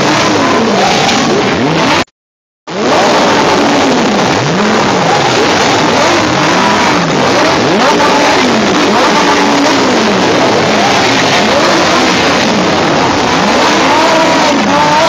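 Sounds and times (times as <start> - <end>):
engines revving: 0.0 - 2.1, 2.7 - 15.0
loud steady engine noise: 0.0 - 2.1, 2.7 - 15.0.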